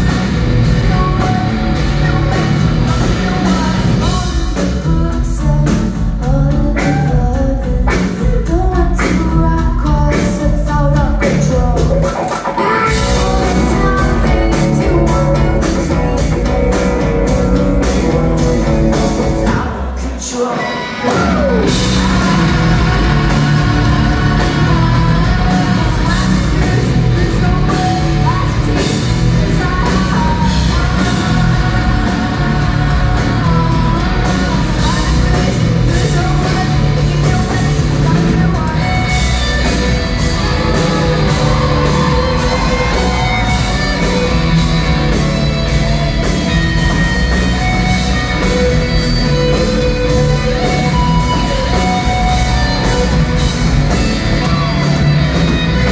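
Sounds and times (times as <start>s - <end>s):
bass guitar: 0.0s - 55.9s
drum kit: 0.0s - 55.9s
electric guitars: 0.0s - 55.9s
woman singing lead: 0.0s - 55.9s.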